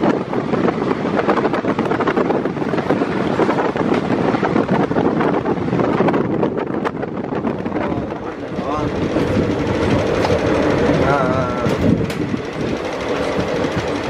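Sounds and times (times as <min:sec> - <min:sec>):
train rumble and rattle: 0:00.0 - 0:14.0
wind buffeting microphone: 0:00.0 - 0:14.0.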